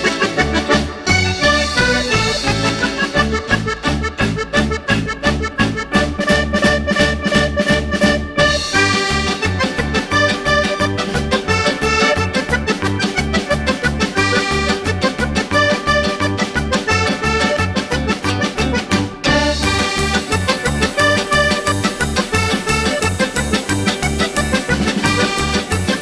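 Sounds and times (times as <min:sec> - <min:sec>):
bouncy background music: 0:00.0 - 0:26.0.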